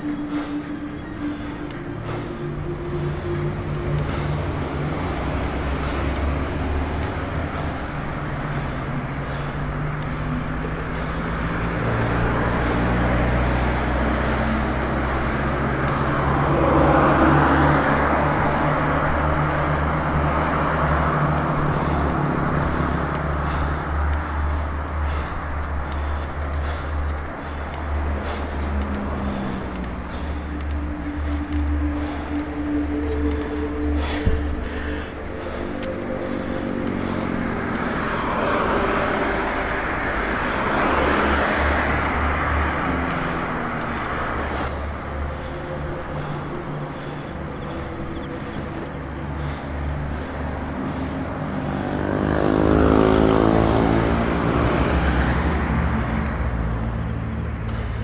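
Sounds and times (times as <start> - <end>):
cars passing: 0.0 - 58.0
low road rumble: 0.0 - 58.0.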